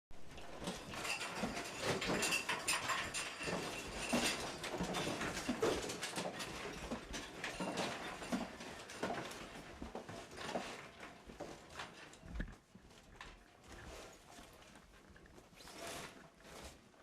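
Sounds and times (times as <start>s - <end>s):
objects rattling in earthquake: 0.1s - 17.0s.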